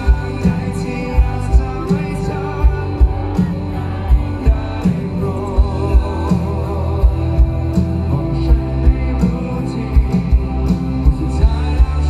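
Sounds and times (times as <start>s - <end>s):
live rock band: 0.0s - 12.0s
man singing: 0.0s - 12.0s.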